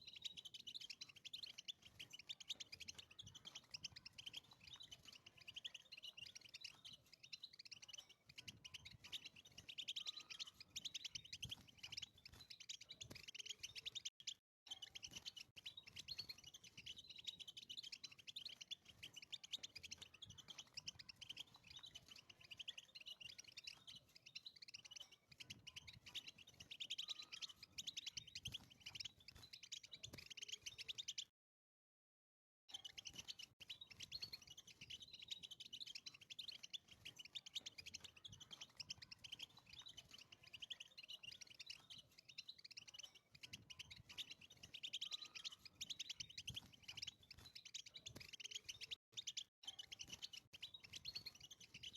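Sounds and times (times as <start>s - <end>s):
bird twittering song: 0.0s - 31.3s, 32.7s - 51.9s.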